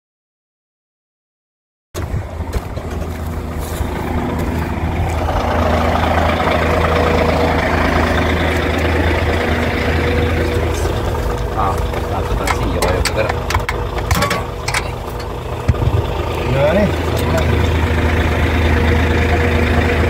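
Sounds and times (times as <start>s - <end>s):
heavy vehicle engine idling: 2.0s - 20.0s.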